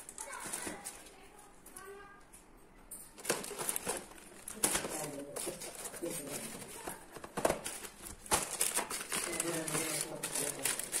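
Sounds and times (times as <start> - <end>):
cardboard and paper rustling: 0.0 - 1.5, 3.2 - 11.0.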